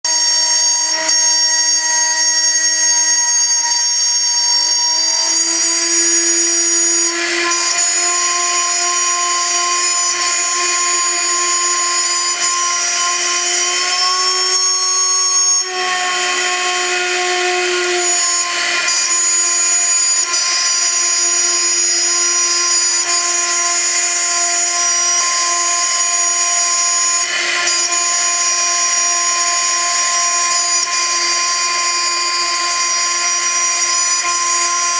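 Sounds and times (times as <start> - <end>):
milling spindle whining: 0.1 - 34.9.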